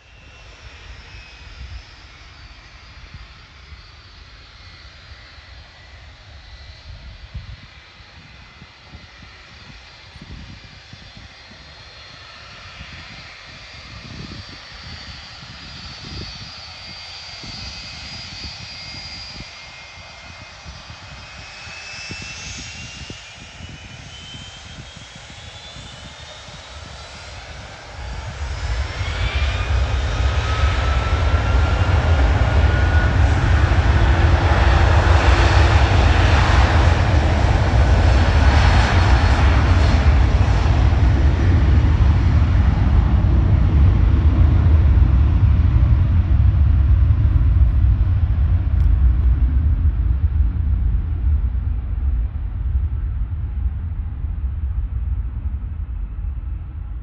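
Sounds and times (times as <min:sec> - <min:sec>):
jet engines whining and rumbling: 0:00.0 - 0:57.0.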